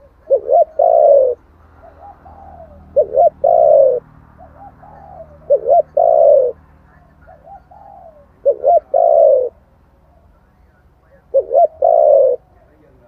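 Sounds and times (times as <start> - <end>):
dove cooing: 0.0 - 12.9.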